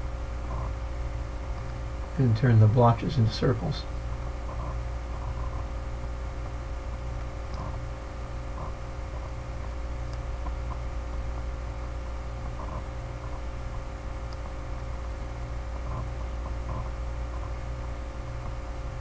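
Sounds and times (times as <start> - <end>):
low electrical hum and hiss: 0.0 - 19.0.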